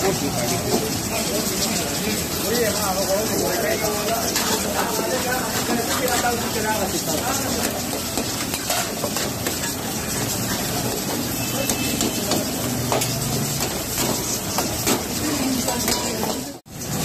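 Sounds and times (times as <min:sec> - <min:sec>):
curry bubbling and sizzling in a wok: 0:00.0 - 0:17.0.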